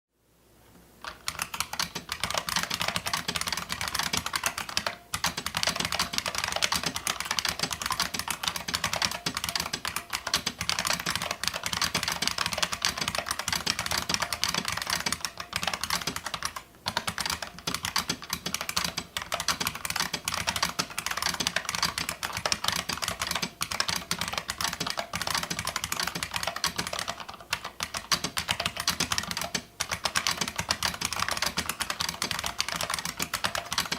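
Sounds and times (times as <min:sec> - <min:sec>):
fast keyboard typing: 0:01.0 - 0:33.9.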